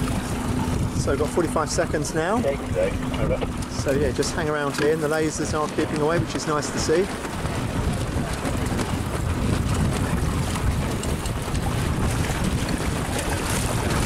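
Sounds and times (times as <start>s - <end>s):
choppy water: 0.0s - 14.0s
wind buffeting microphone: 0.0s - 14.0s.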